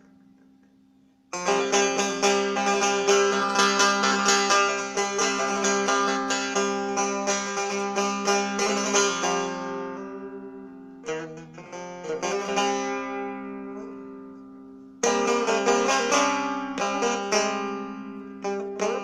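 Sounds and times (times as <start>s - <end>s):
setar plucked solo: 0.0s - 19.0s
ringing drone strings: 1.4s - 19.0s.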